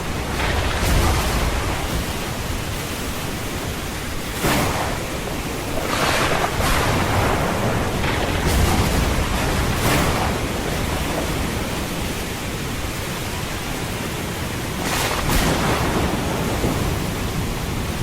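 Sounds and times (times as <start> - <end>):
thunder rumbling: 0.0 - 13.6, 14.7 - 18.0
heavy rain: 0.0 - 18.0.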